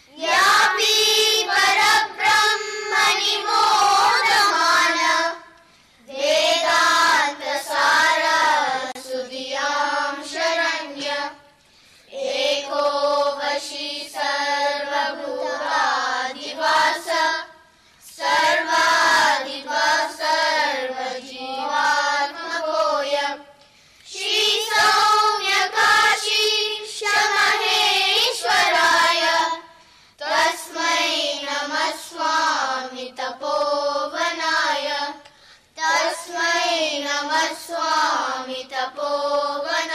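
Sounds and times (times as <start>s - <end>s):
children singing in unison: 0.0s - 11.5s, 12.1s - 23.5s, 24.1s - 39.9s.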